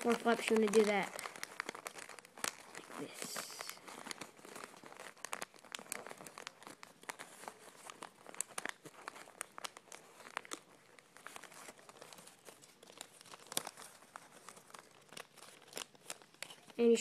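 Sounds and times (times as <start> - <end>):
paper crinkling and crackling: 0.0 - 17.0.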